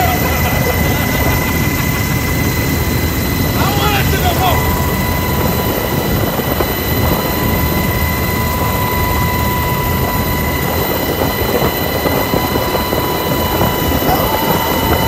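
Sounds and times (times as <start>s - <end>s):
constant high whine: 0.0s - 15.0s
helicopter rotor and engine noise: 0.0s - 15.0s.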